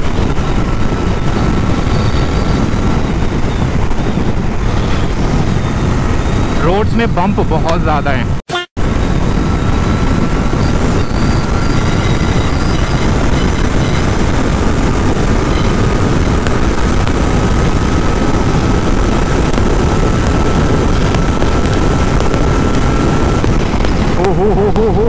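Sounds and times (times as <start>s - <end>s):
motorcycle engine droning: 0.0s - 25.0s
wind rush over microphone: 0.0s - 25.0s.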